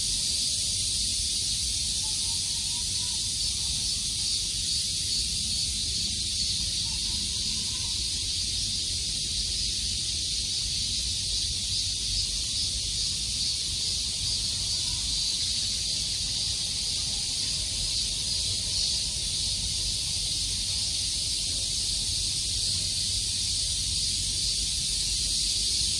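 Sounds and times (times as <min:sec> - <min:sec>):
insects calling: 0:00.0 - 0:25.9.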